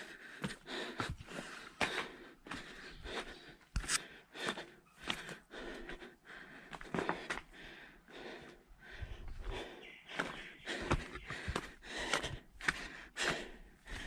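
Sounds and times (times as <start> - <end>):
person panting: 0.0 - 14.0.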